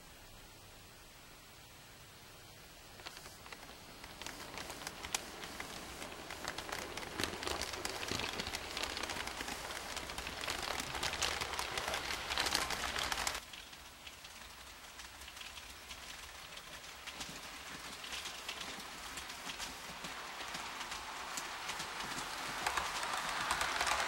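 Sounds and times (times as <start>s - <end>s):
model train wheels clattering: 3.0s - 24.0s.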